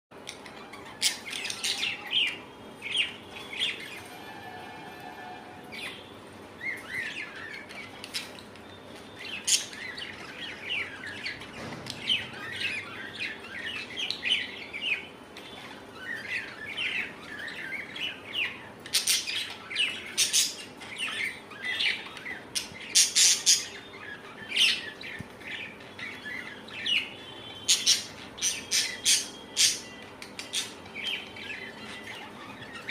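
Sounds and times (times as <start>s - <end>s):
baby budgies chirping: 0.2s - 32.9s.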